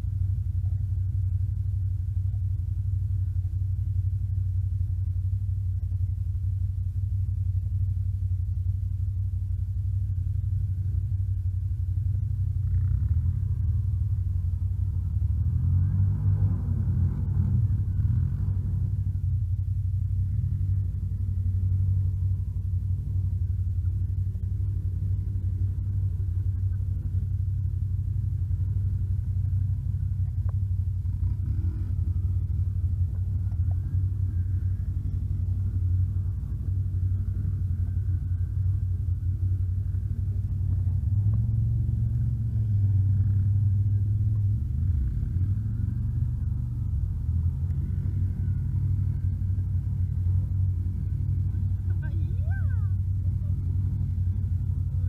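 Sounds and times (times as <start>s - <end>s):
atv engine rumbling: 0.0s - 55.0s.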